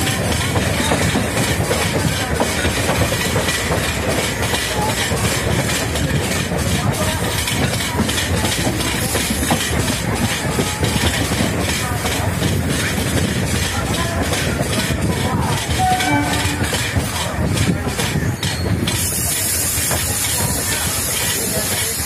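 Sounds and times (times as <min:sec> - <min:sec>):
clickety-clack over rail joints: 0:00.0 - 0:22.0
rumble of train wheels on rails: 0:00.0 - 0:22.0.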